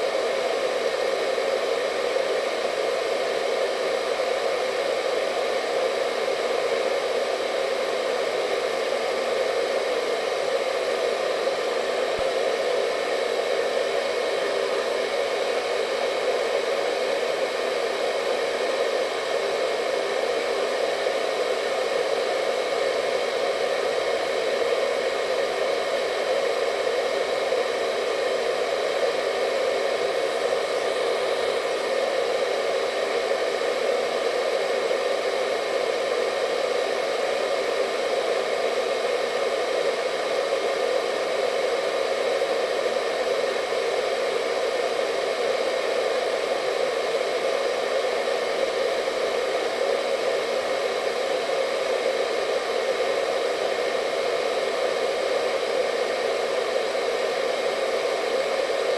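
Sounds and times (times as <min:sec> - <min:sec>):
hair dryer running: 0:00.0 - 0:58.9.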